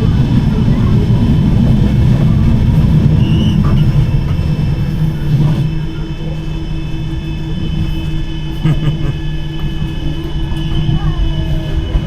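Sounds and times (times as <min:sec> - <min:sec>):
faint high whine: 0:00.0 - 0:12.0
motor hum: 0:00.0 - 0:12.0
tram wheels rumbling on rail: 0:00.0 - 0:12.0.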